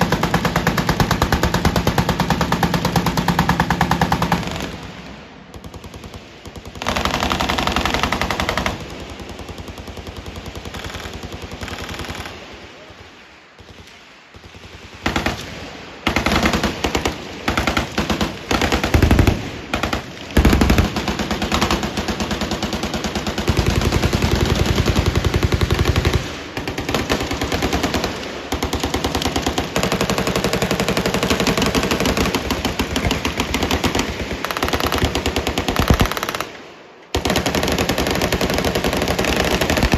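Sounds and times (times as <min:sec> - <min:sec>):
machine guns firing: 0:00.0 - 0:04.9, 0:05.5 - 0:39.9.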